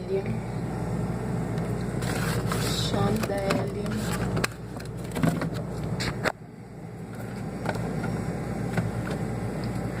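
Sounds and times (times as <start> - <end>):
refrigerator hum: 0.0 - 10.0.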